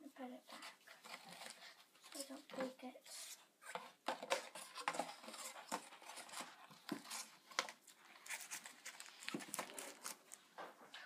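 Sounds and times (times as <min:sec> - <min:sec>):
paper packaging rustling: 0:00.6 - 0:10.5.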